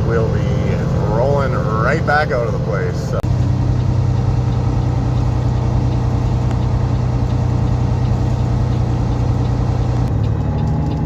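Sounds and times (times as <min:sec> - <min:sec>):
diesel truck engine drone: 0:00.0 - 0:11.0.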